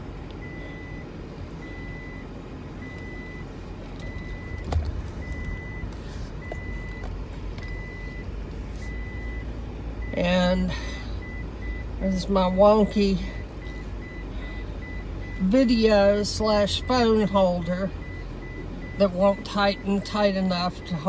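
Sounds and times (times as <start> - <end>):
car low rumble: 0.0 - 21.0
car warning chime beeping: 0.0 - 21.0.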